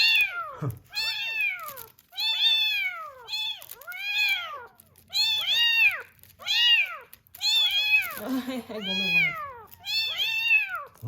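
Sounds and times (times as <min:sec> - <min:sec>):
kitten meowing: 0:00.0 - 0:11.0.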